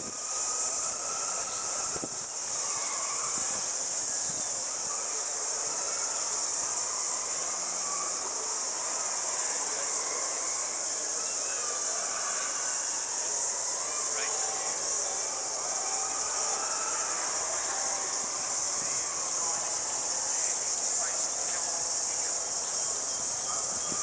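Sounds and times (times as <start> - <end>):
distant voices murmuring: 0.0 - 24.0
high-pitched insect drone: 0.0 - 24.0.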